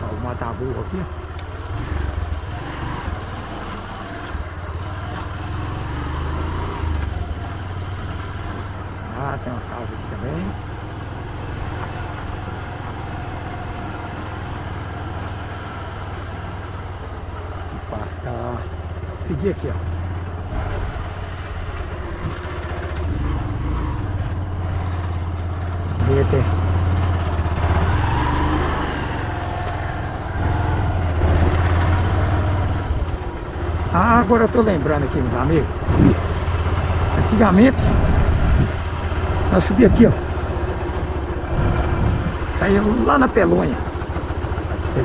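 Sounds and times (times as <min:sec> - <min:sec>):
motorcycle engine running: 0:00.0 - 0:45.0
road noise: 0:00.0 - 0:45.0.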